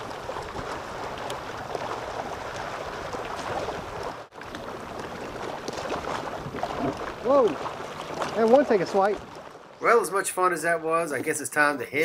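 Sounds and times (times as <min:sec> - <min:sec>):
water noise: 0:00.0 - 0:12.0
water splashing against hull: 0:00.0 - 0:12.0
wind: 0:00.0 - 0:12.0.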